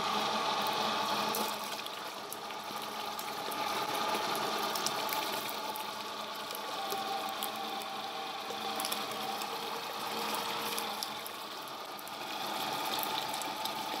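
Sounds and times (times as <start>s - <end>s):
electric motor humming: 0.0s - 14.0s.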